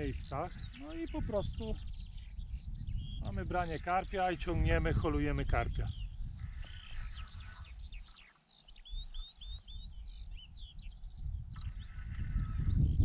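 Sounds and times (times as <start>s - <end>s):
songbirds singing and chirping: 0.0s - 13.0s.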